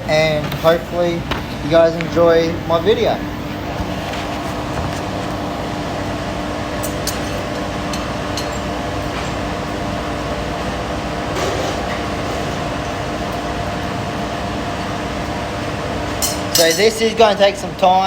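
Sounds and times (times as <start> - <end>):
forge running with low hum: 0.0 - 18.0.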